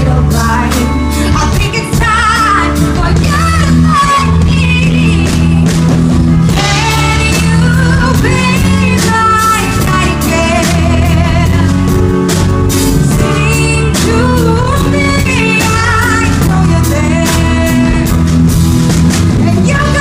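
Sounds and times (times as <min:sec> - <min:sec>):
band accompaniment: 0:00.0 - 0:20.0.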